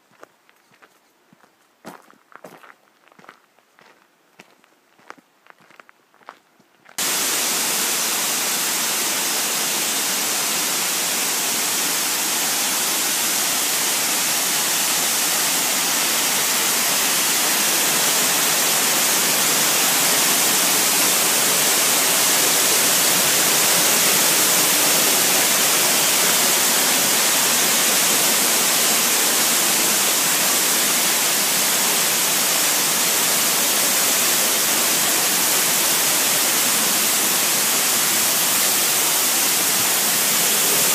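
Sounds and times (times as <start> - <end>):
waterfall pouring: 7.0 - 40.9.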